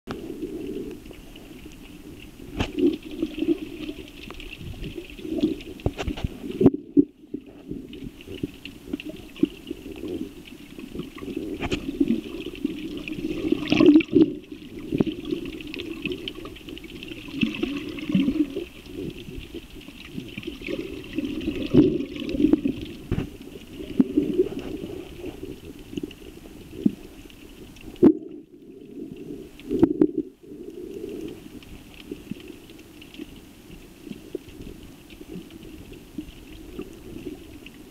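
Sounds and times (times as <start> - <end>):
muffled underwater swishing: 0.1 - 37.9.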